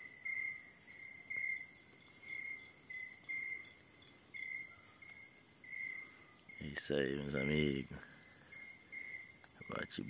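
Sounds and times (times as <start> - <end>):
high-pitched insect drone: 0.0 - 10.0
insect chirping: 0.0 - 10.0.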